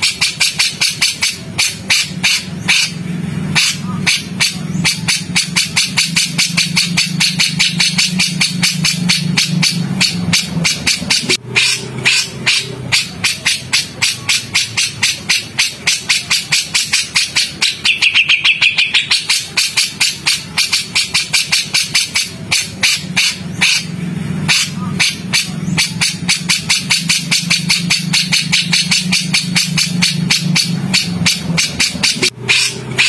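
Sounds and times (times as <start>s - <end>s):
birds chattering harsh sharp notes: 0.0s - 33.0s.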